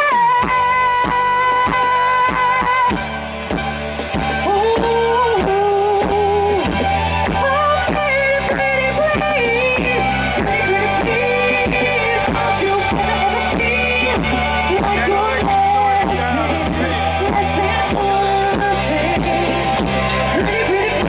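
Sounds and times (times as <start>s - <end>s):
pop-rock band playing: 0.0s - 21.0s
steady drum beat: 0.0s - 21.0s.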